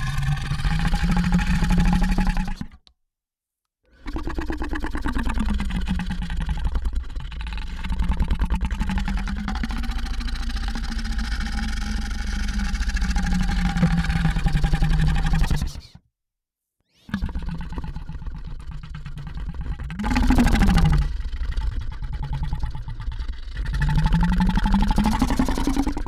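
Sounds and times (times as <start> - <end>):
low creature growl: 0.0 - 2.9, 4.0 - 15.9, 17.1 - 26.0.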